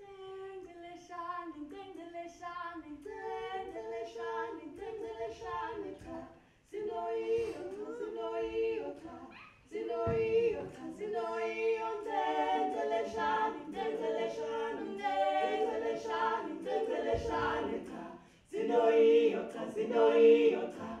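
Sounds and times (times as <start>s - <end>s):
group singing a cappella: 0.0s - 21.0s.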